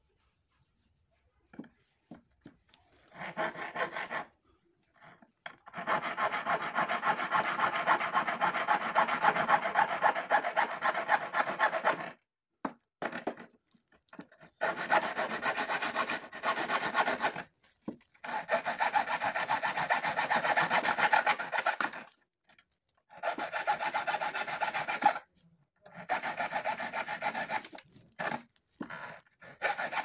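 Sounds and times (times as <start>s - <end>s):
hacksaw sawing: 3.0s - 12.2s, 14.2s - 22.2s, 23.1s - 30.0s.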